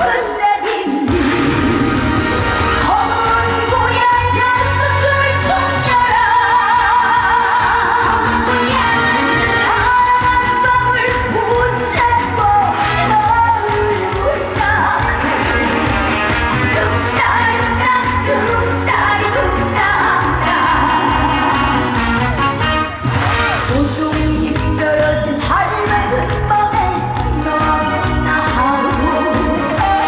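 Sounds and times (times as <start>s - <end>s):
band backing with steady beat: 0.0s - 30.0s
woman singing with vibrato: 0.0s - 30.0s.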